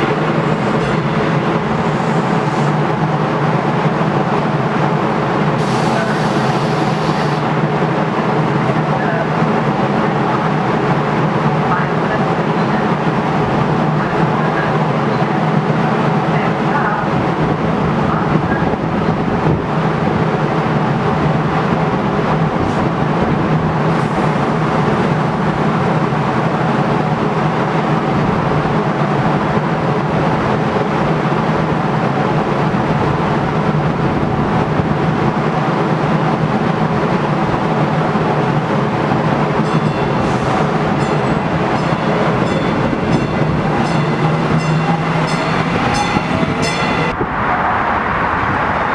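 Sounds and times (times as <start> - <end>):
light rail train humming: 0.0 - 48.9.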